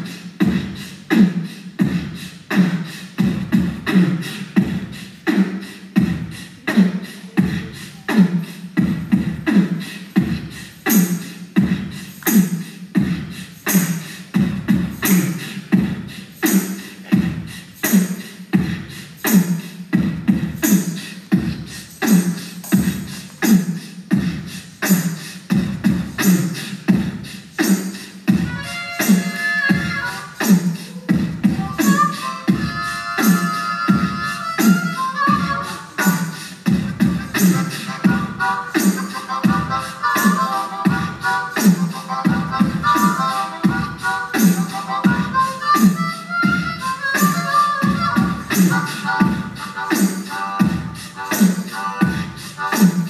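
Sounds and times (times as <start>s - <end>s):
beatboxed rhythm: 0.0s - 53.0s.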